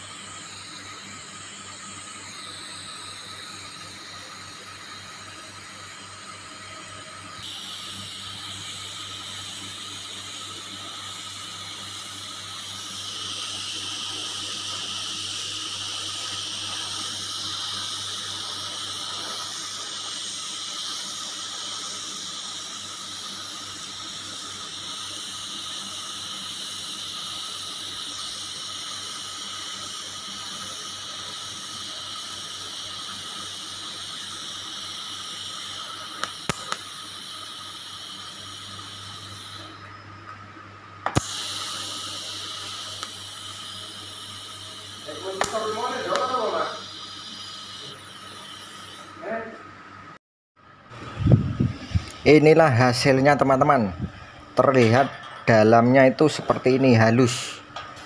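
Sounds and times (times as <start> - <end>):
welding arc hissing: 0.0 - 40.2, 41.0 - 50.2, 50.9 - 58.0.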